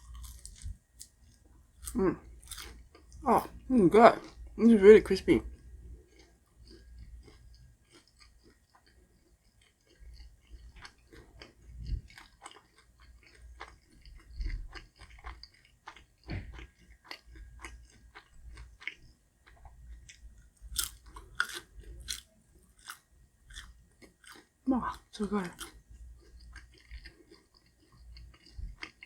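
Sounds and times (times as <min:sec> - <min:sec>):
crunchy chewing: 0:00.0 - 0:03.6, 0:05.5 - 0:29.0.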